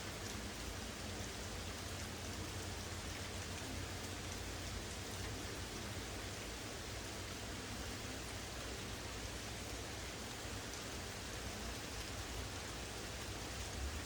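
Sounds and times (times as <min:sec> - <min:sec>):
steady rain hissing: 0:00.0 - 0:14.0.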